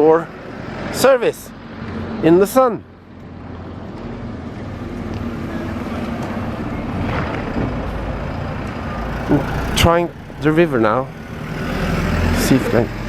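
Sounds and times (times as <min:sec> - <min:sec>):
vehicle engine running: 0:00.2 - 0:13.0.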